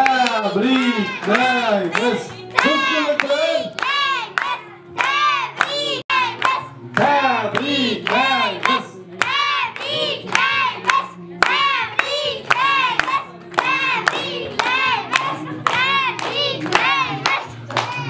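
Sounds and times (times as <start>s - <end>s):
rhythmic hand clapping: 0.0s - 18.0s
people singing short syllables: 0.6s - 18.0s.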